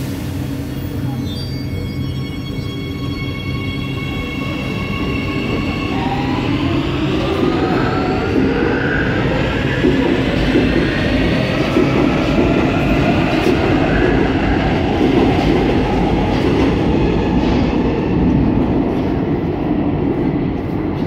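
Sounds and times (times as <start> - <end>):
metro train rumbling: 0.0 - 21.0.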